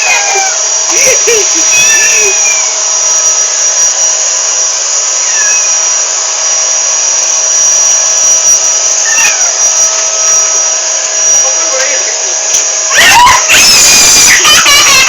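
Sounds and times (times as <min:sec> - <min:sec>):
vacuum cleaner motor running: 0:00.0 - 0:15.0.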